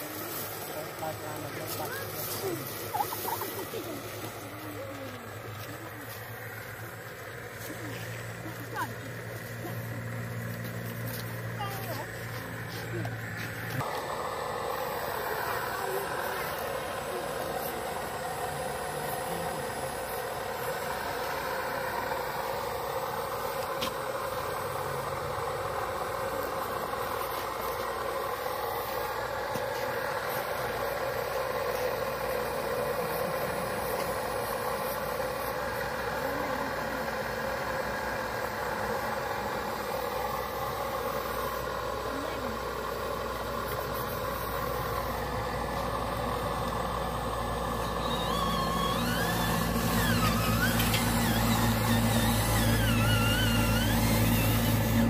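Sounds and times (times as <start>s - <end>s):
low motor of dump truck: 0.0s - 55.0s
toy excavator whirring: 0.0s - 55.0s.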